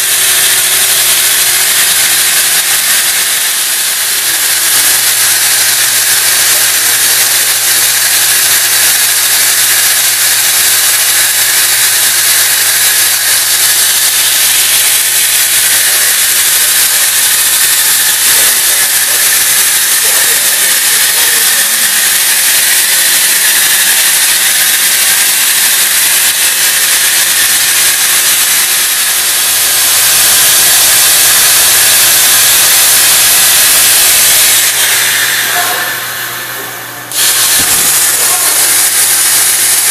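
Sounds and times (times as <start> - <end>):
machine hissing: 0.0 - 39.9.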